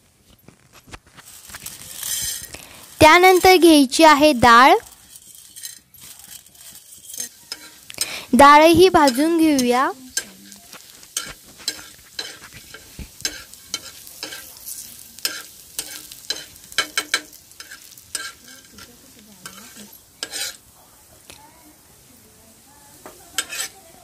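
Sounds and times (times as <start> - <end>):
faint sizzle: 0.0 - 24.0
metal spatula scraping griddle: 1.1 - 3.7, 4.4 - 20.6, 23.1 - 23.9.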